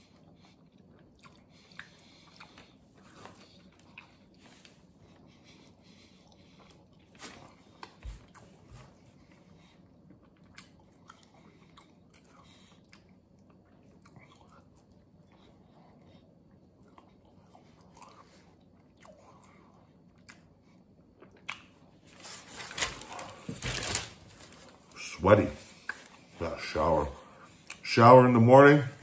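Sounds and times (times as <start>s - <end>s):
man chewing food: 0.0s - 25.0s, 25.6s - 26.6s, 27.2s - 27.9s.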